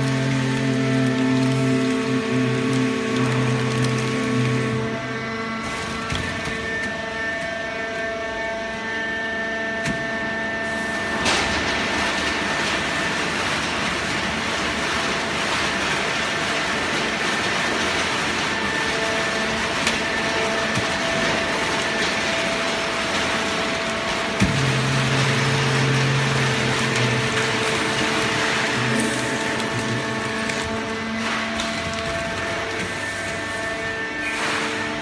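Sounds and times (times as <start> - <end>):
pump whine: 0.0 - 35.0.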